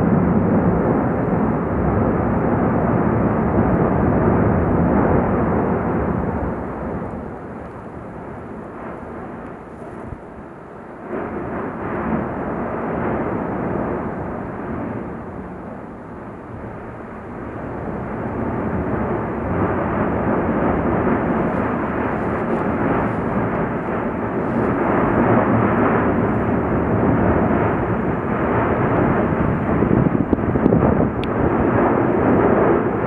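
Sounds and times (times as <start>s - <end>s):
volcano roaring: 0.0s - 33.0s.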